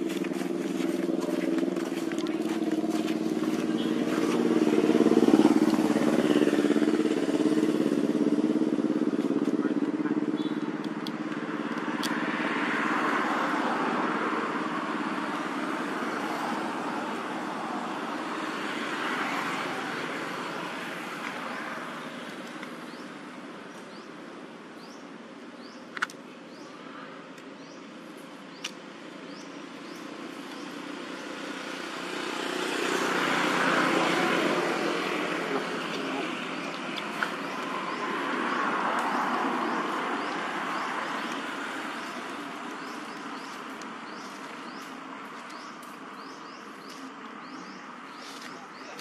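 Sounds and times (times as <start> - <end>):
vehicles passing: 0.0 - 49.0.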